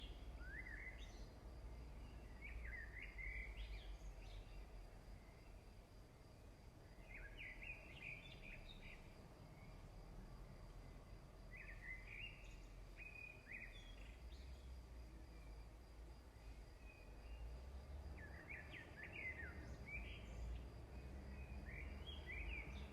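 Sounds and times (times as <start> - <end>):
faint bird chirping: 0.0 - 22.9
steady low background noise: 0.0 - 22.9.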